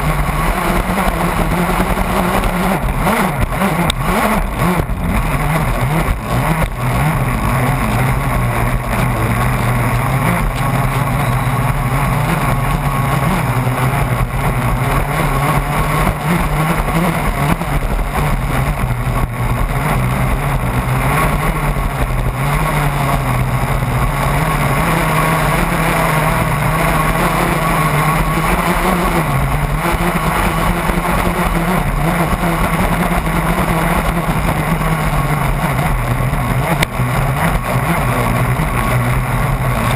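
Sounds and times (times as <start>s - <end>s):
model boat motor droning: 0.0s - 39.9s.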